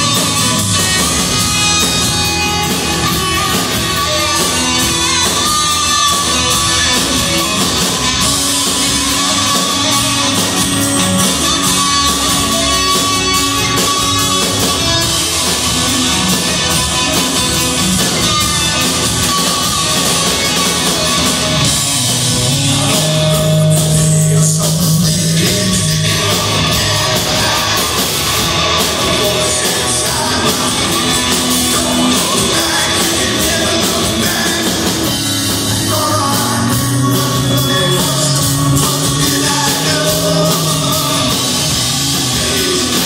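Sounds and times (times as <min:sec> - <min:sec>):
acoustic rock band playing: 0:00.0 - 0:43.0
guitar lead with bending notes: 0:00.0 - 0:43.0.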